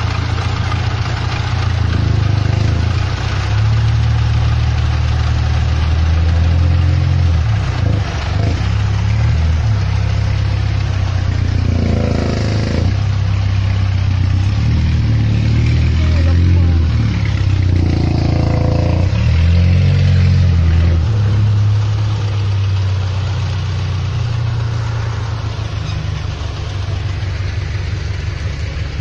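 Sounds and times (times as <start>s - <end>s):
tractor engine droning under load: 0.0s - 29.0s.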